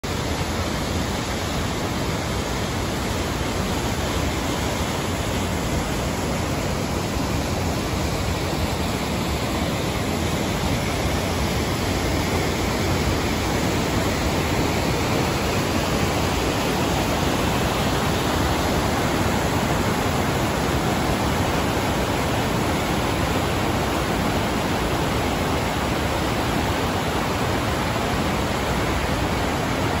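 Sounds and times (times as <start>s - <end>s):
river rushing: 0.0s - 30.0s
waterfall rushing: 0.0s - 30.0s.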